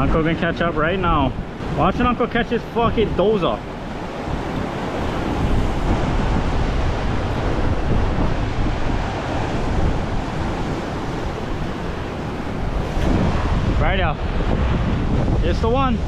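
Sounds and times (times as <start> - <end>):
ocean surf washing in: 0.0 - 16.0
wind buffeting microphone: 0.0 - 16.0.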